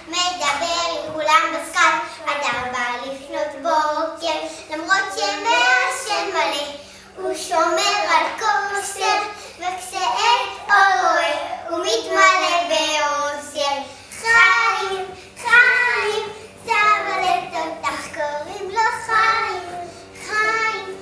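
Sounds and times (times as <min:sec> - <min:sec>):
children singing: 0:03.5 - 0:21.0.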